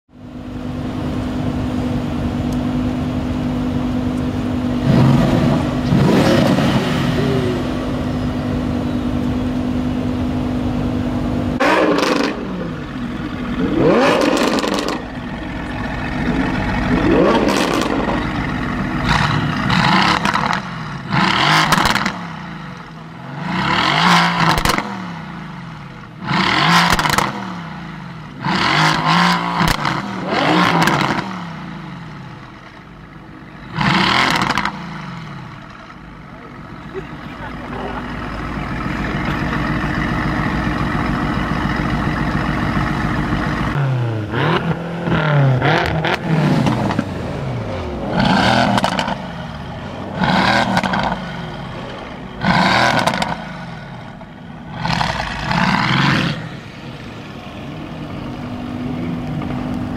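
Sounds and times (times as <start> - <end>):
car engine idling: 0.1 - 59.9
car engine revving: 0.3 - 59.9.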